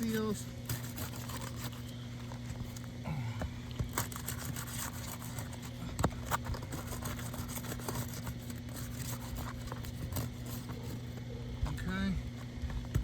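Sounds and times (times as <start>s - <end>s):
shingles crackling and scraping: 0.0s - 13.0s.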